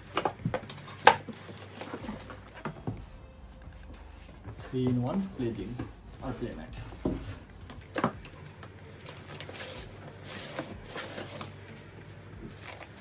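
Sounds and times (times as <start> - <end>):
packaging rustling and scraping: 0.0 - 2.8, 3.7 - 13.0.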